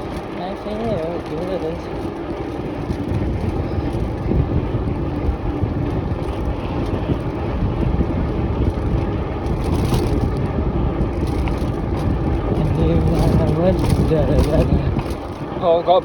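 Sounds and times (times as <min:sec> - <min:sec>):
bike tyres rumbling on track: 0:00.0 - 0:16.0
wind buffeting microphone: 0:00.0 - 0:16.0.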